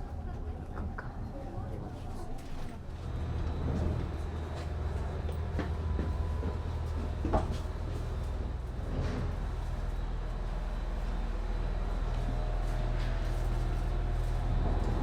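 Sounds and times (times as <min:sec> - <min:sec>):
train rumbling in motion: 0:00.0 - 0:15.0.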